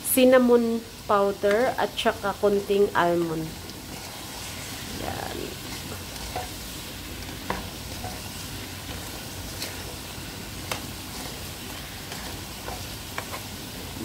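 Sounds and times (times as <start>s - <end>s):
banana slices sizzling in oil: 0.0s - 14.0s.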